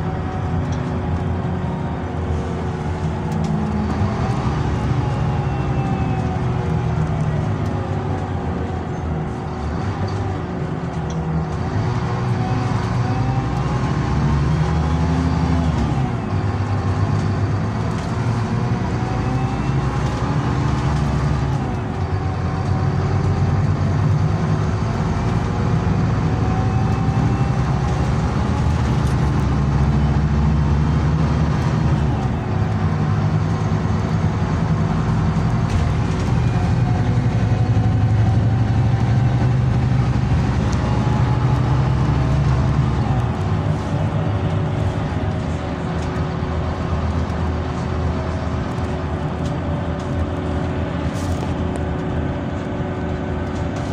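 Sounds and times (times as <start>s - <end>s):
bus engine and road noise: 0.0s - 53.9s.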